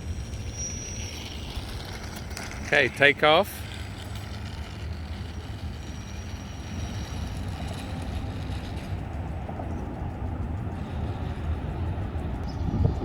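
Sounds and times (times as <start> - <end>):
model airplane motor whine: 0.0 - 13.0
wind buffeting microphone: 0.0 - 13.0.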